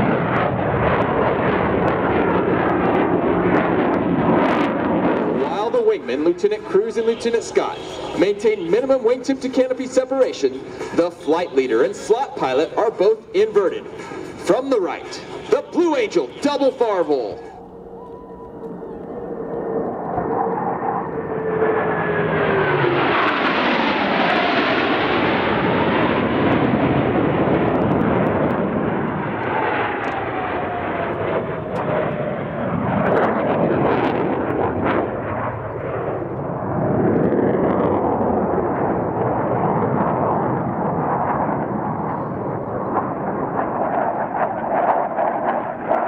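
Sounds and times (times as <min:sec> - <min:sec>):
jets flying past: 0:00.0 - 0:46.0.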